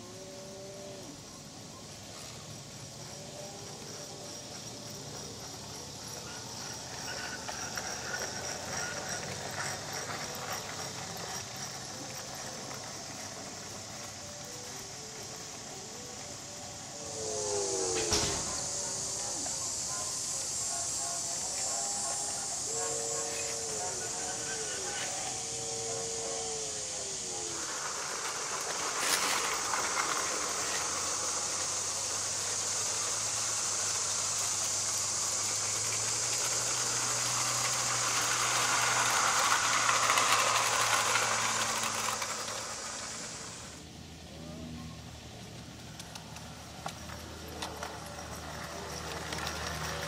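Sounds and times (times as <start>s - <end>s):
model train whirring: 0.0s - 50.0s.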